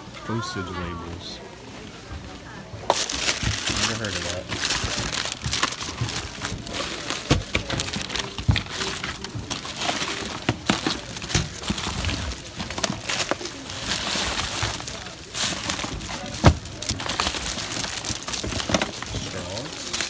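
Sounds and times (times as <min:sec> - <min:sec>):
boxes knocking: 0:02.8 - 0:19.5
plastic packaging crinkling: 0:02.8 - 0:20.0.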